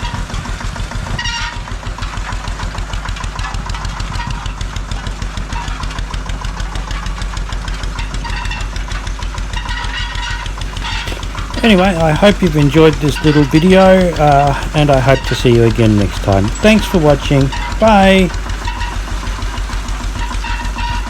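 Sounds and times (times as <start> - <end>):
stationary engine running: 0.0 - 21.0.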